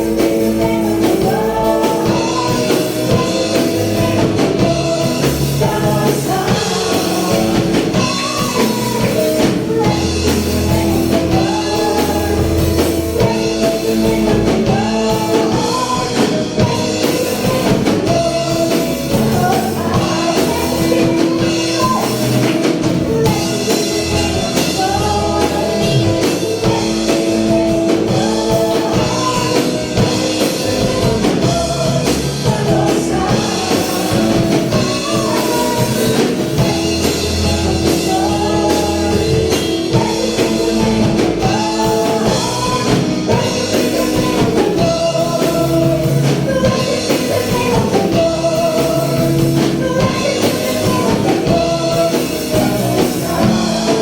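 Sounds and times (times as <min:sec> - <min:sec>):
person singing: 0:00.0 - 0:54.0
worship song by a band: 0:00.0 - 0:54.0.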